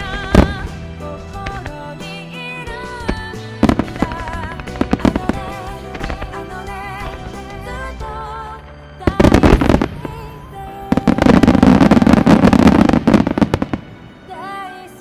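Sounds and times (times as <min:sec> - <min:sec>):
fireworks crackle: 0:00.0 - 0:02.4, 0:03.0 - 0:07.7, 0:09.1 - 0:14.2
song with singer: 0:00.0 - 0:15.0.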